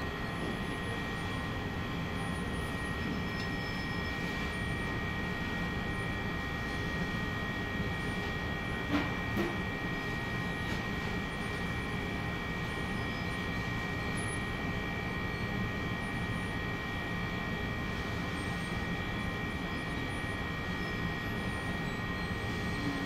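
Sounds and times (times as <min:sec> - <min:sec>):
background hum and hiss: 0:00.0 - 0:23.0.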